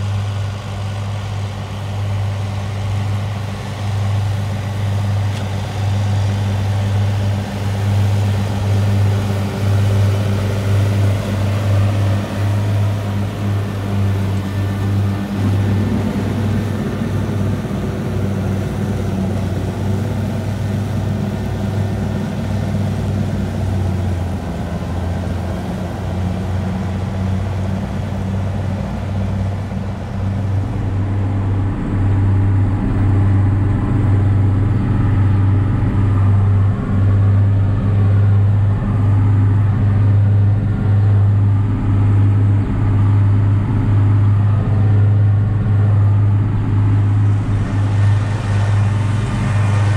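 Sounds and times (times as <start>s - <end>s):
diesel tractor engine droning: 0.0s - 49.9s.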